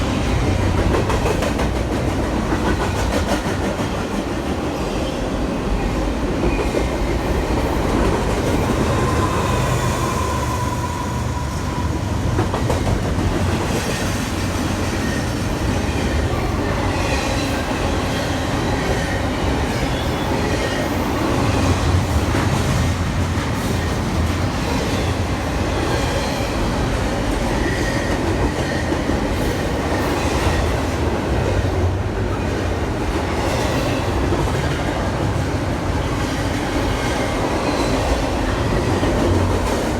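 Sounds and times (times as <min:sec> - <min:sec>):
railroad cars clattering on rails: 0:00.0 - 0:39.9.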